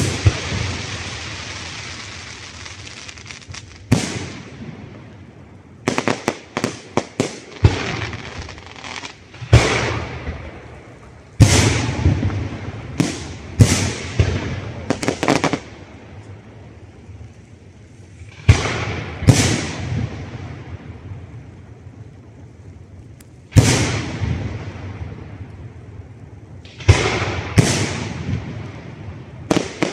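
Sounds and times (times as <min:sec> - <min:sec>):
heavy firework booms: 0:00.0 - 0:16.0, 0:18.3 - 0:21.4, 0:23.5 - 0:25.9, 0:26.6 - 0:29.9
crackling firework reports: 0:00.0 - 0:29.9.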